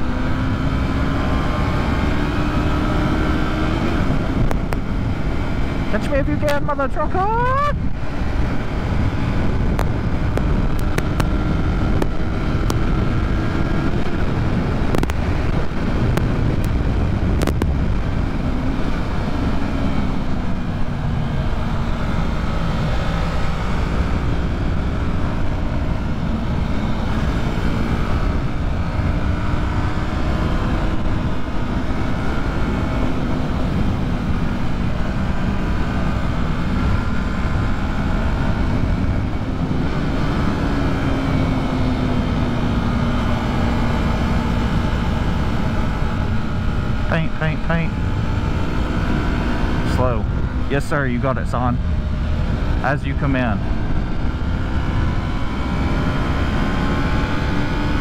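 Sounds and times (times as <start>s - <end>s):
motorcycle engine at speed: 0.0s - 58.0s
wind rush: 0.0s - 58.0s.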